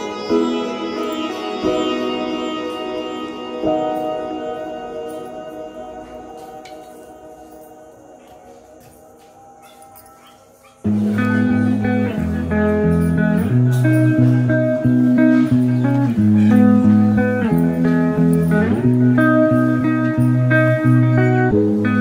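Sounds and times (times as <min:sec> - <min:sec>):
guitar-led instrumental music: 0:00.0 - 0:22.0.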